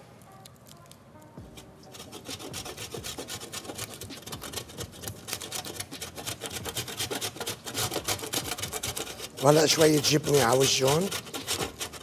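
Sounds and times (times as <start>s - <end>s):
cheese grating on metal grater: 1.5s - 12.0s.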